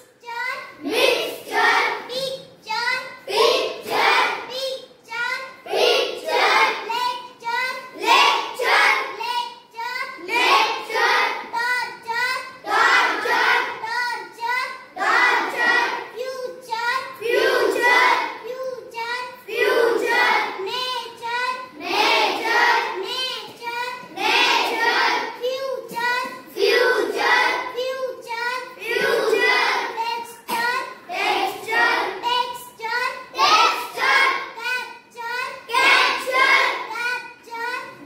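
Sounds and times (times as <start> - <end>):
child chanting in sing-song: 0.0 - 21.8, 22.4 - 38.0.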